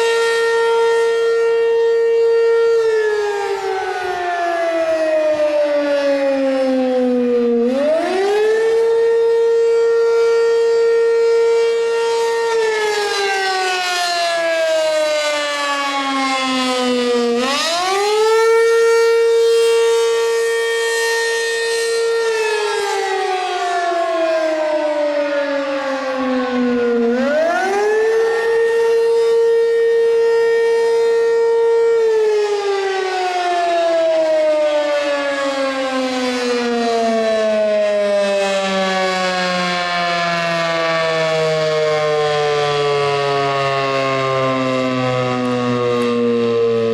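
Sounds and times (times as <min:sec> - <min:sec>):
electromechanical fire siren wailing: 0:00.0 - 0:46.9.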